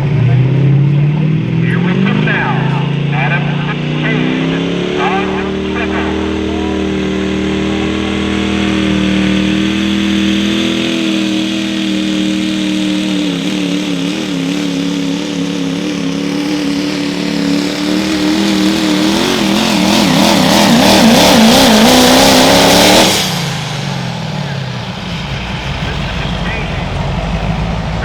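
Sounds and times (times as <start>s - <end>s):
diesel truck engine at high revs: 0.0s - 28.0s.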